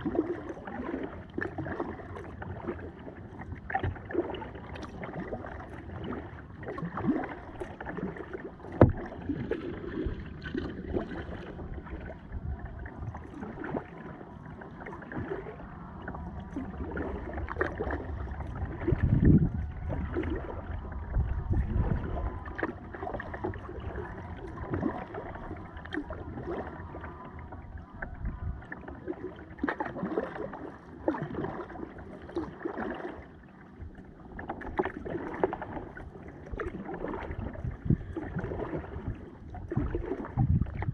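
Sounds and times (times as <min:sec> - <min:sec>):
paddle splashing in water: 0:00.0 - 0:40.9
water gurgling around boat: 0:00.0 - 0:40.9.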